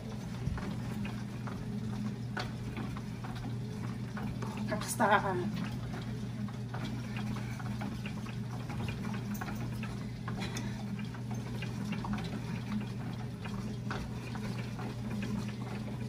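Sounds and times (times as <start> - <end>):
elliptical trainer hum: 0.0 - 16.0.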